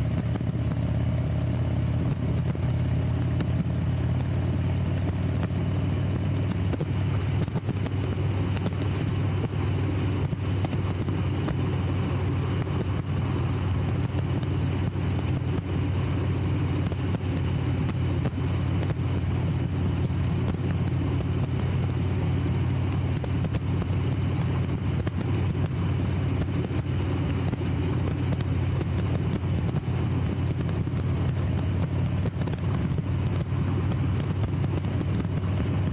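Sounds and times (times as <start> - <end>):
motorcycle engine cruising: 0.0 - 35.9
wind and road noise: 0.0 - 35.9.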